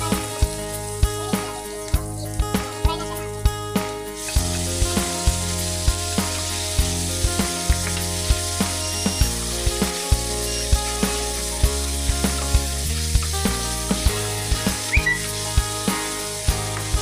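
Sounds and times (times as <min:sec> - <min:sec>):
beef sizzling in a frying pan: 0:00.0 - 0:17.0.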